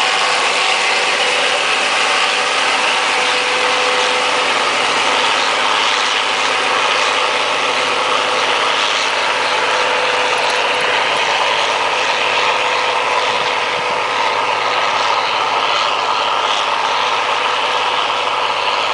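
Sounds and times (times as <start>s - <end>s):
combine harvester running: 0.0s - 18.9s.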